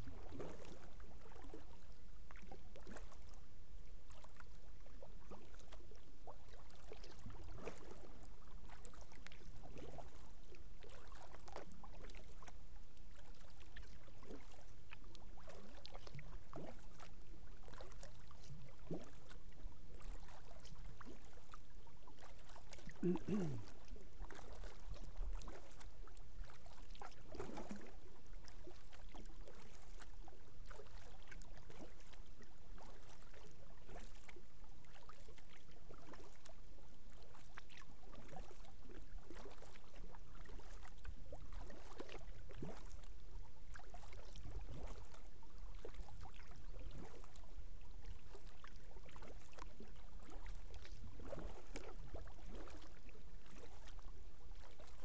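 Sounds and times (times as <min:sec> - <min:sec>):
paddle splashing in water: 0:00.0 - 0:03.3, 0:06.3 - 0:12.5, 0:13.2 - 0:32.2, 0:32.8 - 0:43.1, 0:43.7 - 0:47.4, 0:48.0 - 0:55.0.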